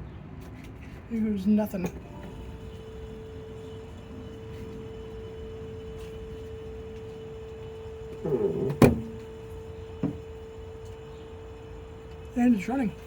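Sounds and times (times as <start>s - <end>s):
steady hum: 1.1s - 13.0s
compressor groan: 2.0s - 13.0s.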